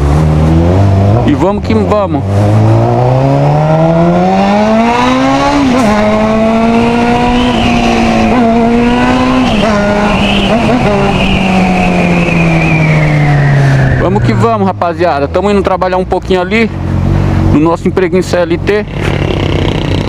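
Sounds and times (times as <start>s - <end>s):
motorcycle engine accelerating: 0.0s - 15.7s, 18.6s - 20.0s.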